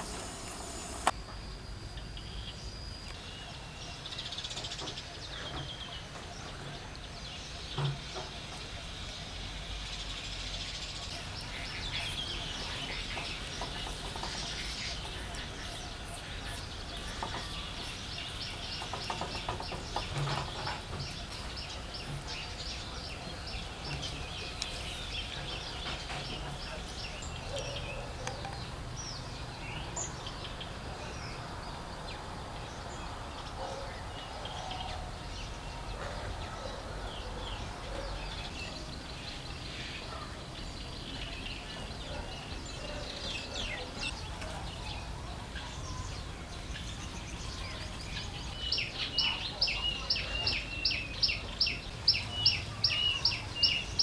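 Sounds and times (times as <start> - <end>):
steady background noise: 0.0 - 54.0
birds chirping and calling: 2.2 - 54.0.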